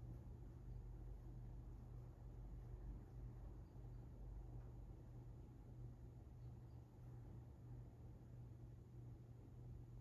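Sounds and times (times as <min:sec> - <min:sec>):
ceiling fan motor hum: 0:00.0 - 0:10.0.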